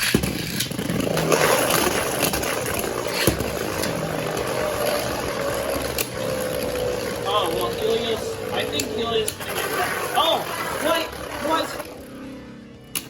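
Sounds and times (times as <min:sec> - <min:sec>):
spinning tops whirring: 0:00.0 - 0:13.0.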